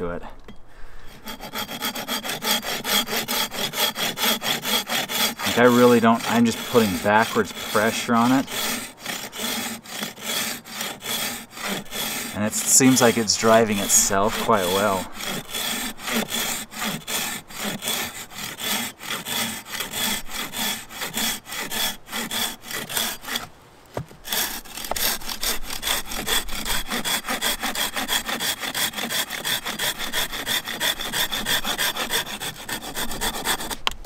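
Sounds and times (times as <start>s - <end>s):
pruning saw cutting log: 1.0s - 34.0s.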